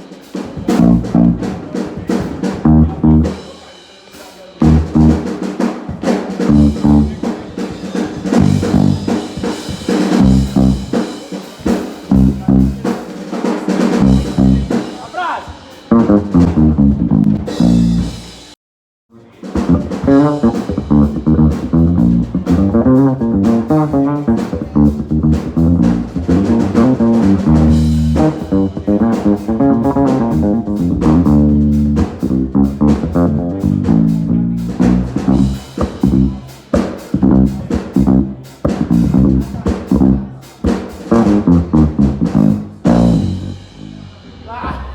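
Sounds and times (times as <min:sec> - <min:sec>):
band playing groove: 0:00.0 - 0:18.6, 0:19.2 - 0:44.9.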